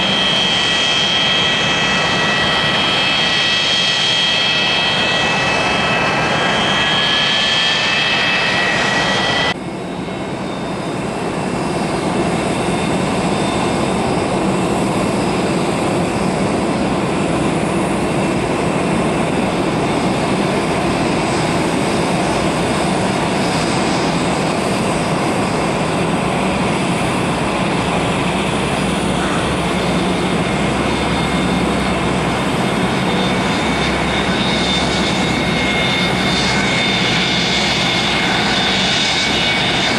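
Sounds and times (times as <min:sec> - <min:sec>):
jet engine high whine: 0:00.0 - 0:39.9
loud rushing jet noise: 0:00.0 - 0:39.9.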